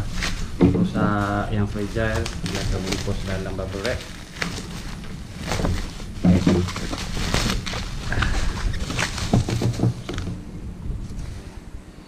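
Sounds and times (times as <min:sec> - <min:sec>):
plastic packaging crinkling: 0:00.0 - 0:10.4
handling bumps: 0:00.0 - 0:10.6.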